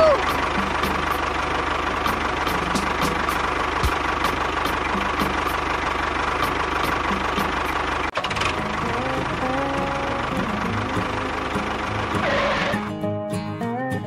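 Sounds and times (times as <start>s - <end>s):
engine idling with knock: 0.1s - 12.8s.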